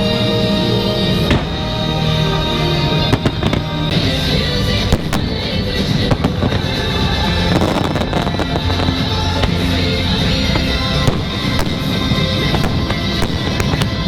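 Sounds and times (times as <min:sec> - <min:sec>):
fireworks bangs: 0:00.0 - 0:14.0
loud show music: 0:00.0 - 0:14.0.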